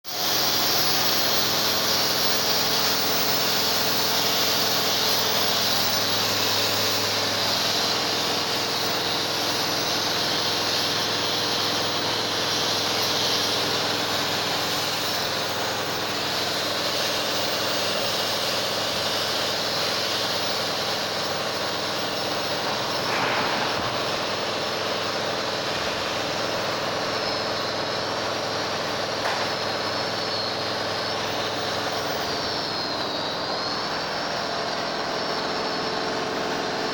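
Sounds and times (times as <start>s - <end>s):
machinery drone: 0.1s - 36.9s.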